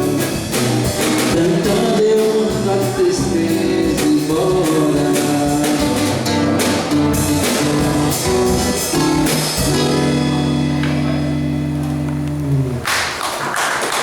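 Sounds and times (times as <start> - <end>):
live samba band playing: 0.0 - 13.2.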